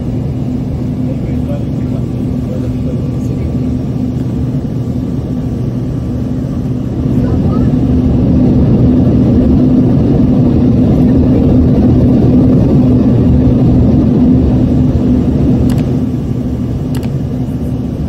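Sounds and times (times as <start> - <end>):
jet engines in cabin: 0.0 - 18.0
steady low hum: 0.0 - 18.0.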